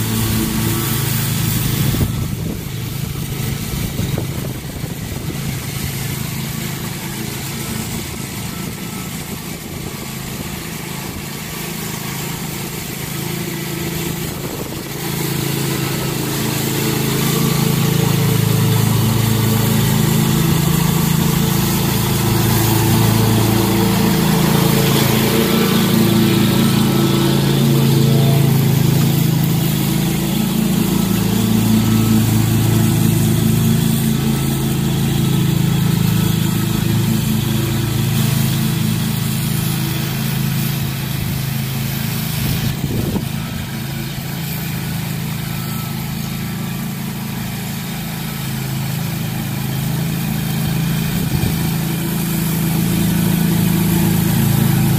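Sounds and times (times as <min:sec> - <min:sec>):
lawn mower engine cutting grass: 0:00.0 - 0:54.9.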